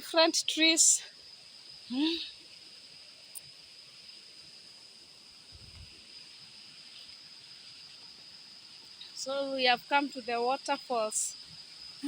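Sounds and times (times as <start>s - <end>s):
soft forest ambience hiss: 0.0s - 12.0s.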